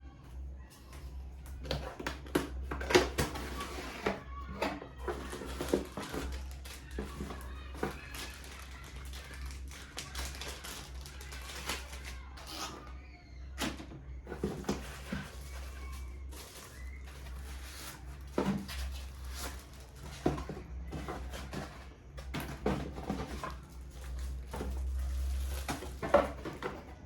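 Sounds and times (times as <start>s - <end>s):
packaging rustling and clicking: 1.4s - 12.9s, 13.6s - 27.0s.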